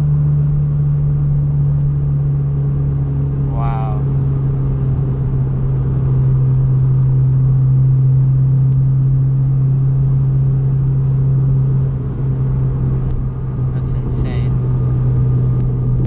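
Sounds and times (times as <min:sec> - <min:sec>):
car engine droning: 0:00.0 - 0:16.0
road rumble: 0:00.0 - 0:16.0.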